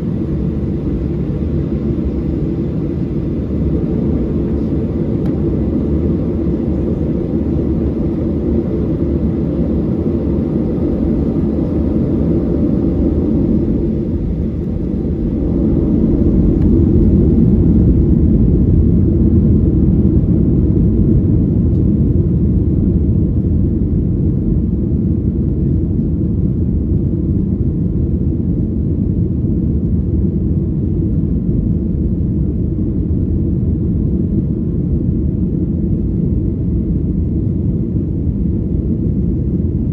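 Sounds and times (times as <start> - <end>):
jet engine and airflow rumble: 0.0 - 39.9.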